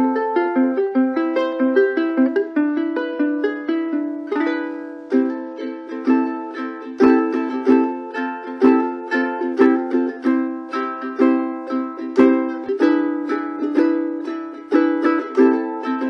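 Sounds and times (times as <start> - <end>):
ukulele picked melody: 0.0 - 16.0
ukulele strummed chords: 0.0 - 16.0.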